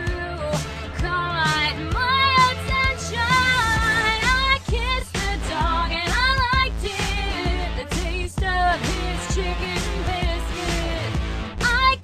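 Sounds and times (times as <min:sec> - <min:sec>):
pop music with singing: 0:00.0 - 0:12.0.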